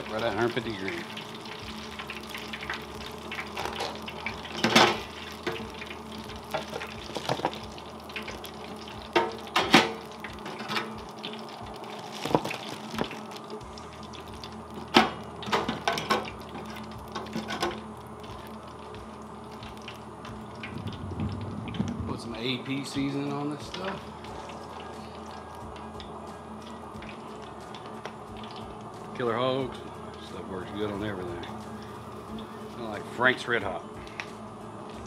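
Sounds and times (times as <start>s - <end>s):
oil bubbling and sizzling: 0.0s - 35.0s.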